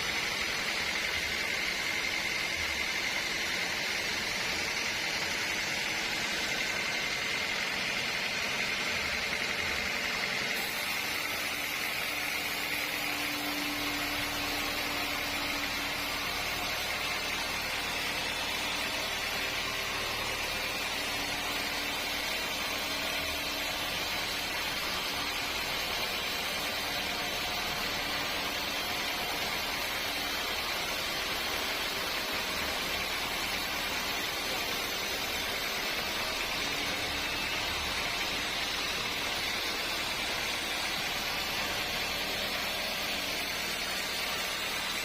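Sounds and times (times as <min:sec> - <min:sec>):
sawmill machinery humming: 0:00.0 - 0:45.0.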